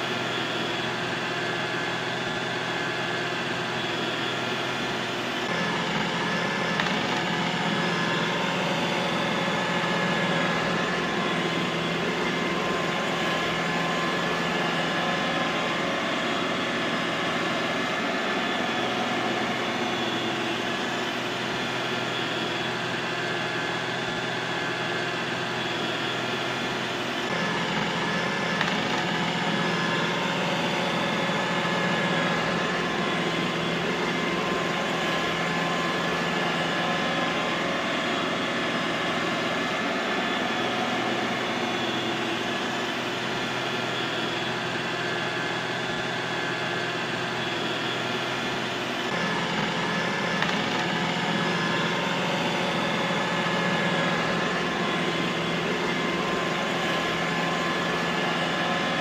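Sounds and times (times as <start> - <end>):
robot vacuum cleaner whirring: 0.0 - 59.0.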